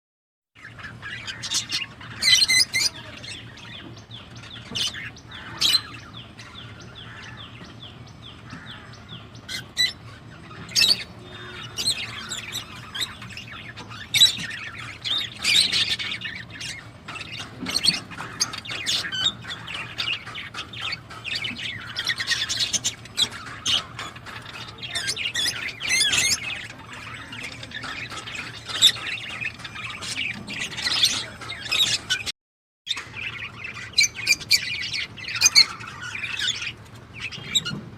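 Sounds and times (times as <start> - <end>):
birds chattering and chirping: 0.6 - 32.3, 32.9 - 37.9.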